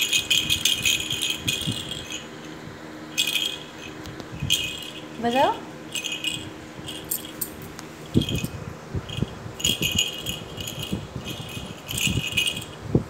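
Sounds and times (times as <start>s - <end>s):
plastic rattle toy jingling: 0.0s - 2.5s, 3.1s - 12.8s.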